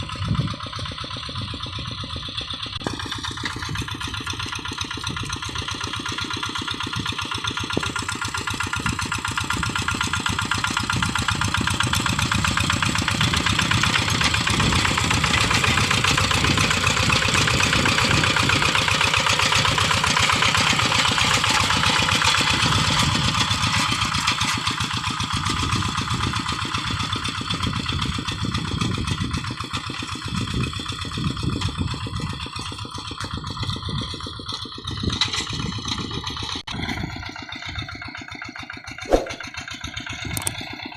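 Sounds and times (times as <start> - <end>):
hand tractor diesel engine running: 0.0 - 40.9.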